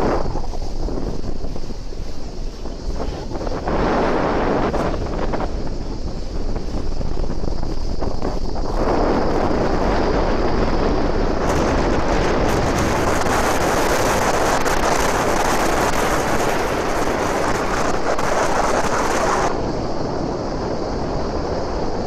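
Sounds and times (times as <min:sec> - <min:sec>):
boat engine: 0:00.0 - 0:20.2
water: 0:00.0 - 0:22.0
wind rushing over microphone: 0:00.0 - 0:22.0.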